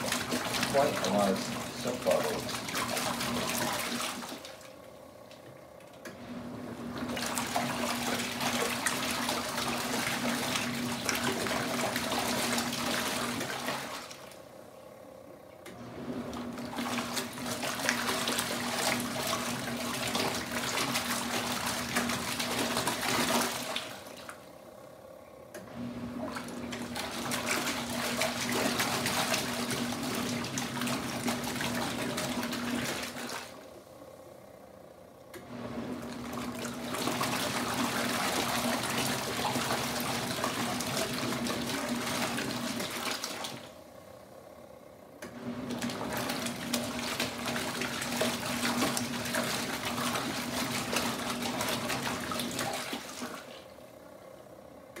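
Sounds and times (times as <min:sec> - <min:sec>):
water churning and sloshing: 0:00.0 - 0:14.5, 0:15.8 - 0:24.5, 0:25.7 - 0:33.8, 0:35.5 - 0:43.8, 0:45.4 - 0:53.9
washing machine motor hum: 0:00.0 - 0:55.0.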